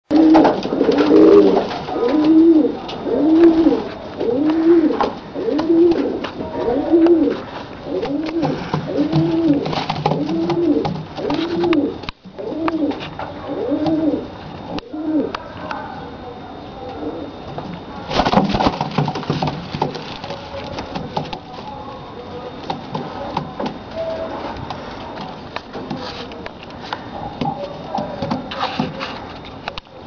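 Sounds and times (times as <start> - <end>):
pigeon cooing: 0.1 - 25.2.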